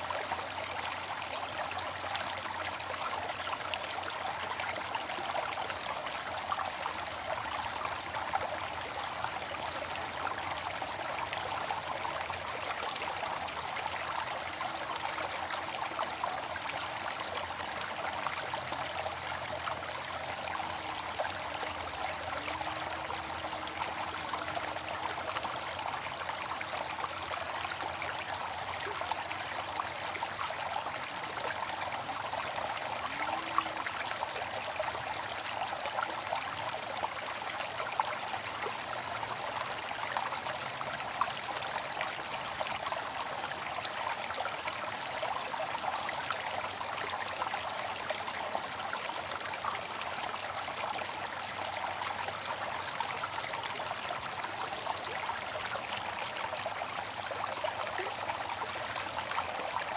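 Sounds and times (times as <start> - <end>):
water fountain splashing: 1.8 - 59.9.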